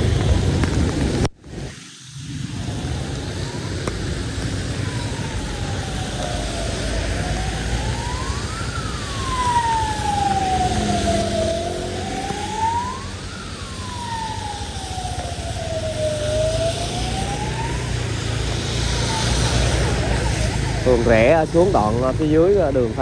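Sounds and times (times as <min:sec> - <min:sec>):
street traffic rumble: 0:00.0 - 0:23.0
siren wailing: 0:02.4 - 0:23.0.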